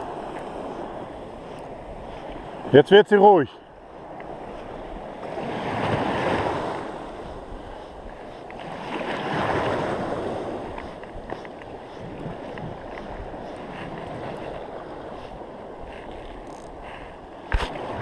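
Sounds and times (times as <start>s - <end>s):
small sea waves washing in: 0.0s - 18.0s.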